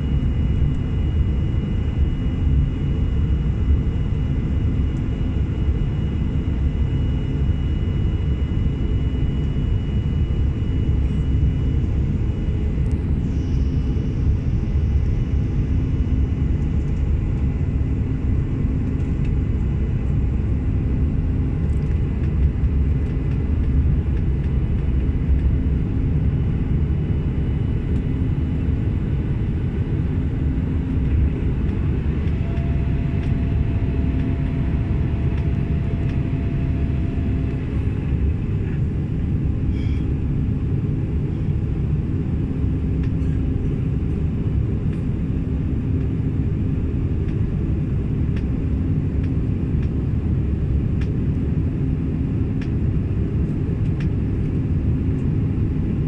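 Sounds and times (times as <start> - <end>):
constant low hum: 0.0 - 56.0
jet engine rumble in cabin: 0.0 - 56.0.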